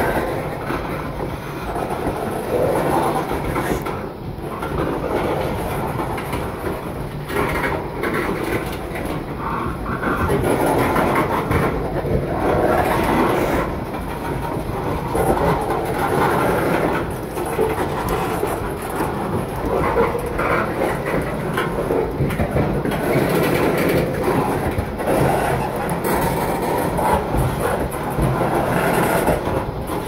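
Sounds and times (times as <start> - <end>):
railcars clacking and rattling: 0.0 - 30.0
train wheels rumbling on rail: 0.0 - 30.0.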